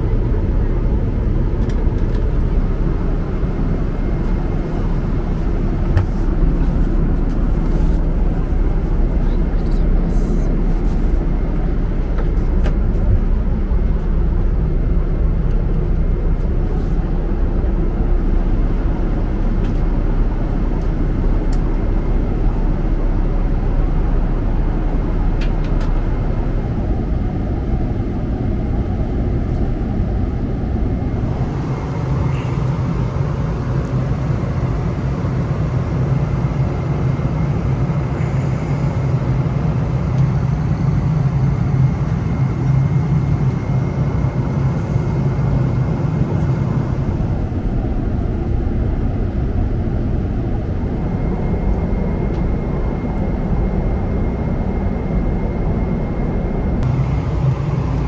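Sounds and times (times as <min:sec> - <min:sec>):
airliner cabin noise: 0:00.0 - 0:58.0.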